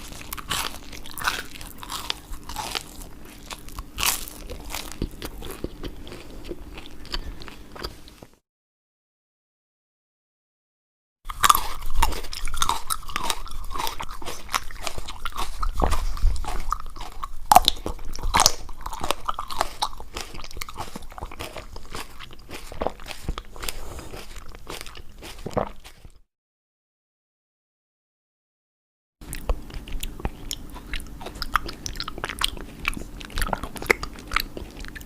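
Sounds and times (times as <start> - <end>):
person chewing crunchy food: 0.0 - 8.4, 11.3 - 26.3, 29.2 - 35.0.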